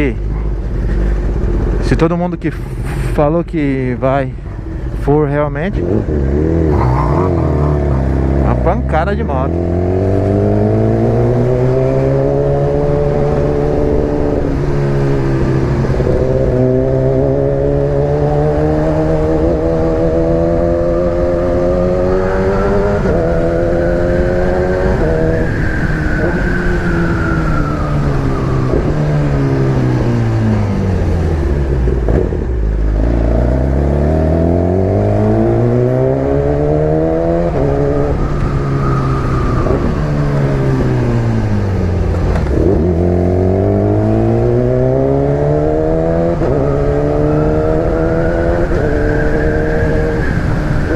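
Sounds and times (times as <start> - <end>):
motorcycle engine revving: 4.6 - 50.9.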